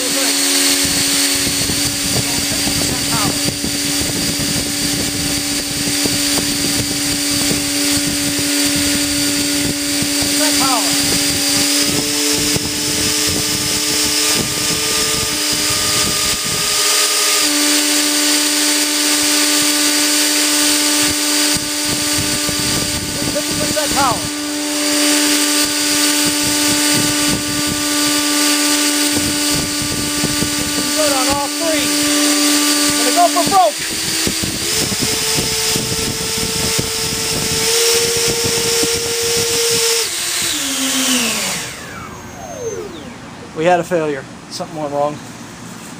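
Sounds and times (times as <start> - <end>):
electric ducted fans whirring: 0.0 - 45.9.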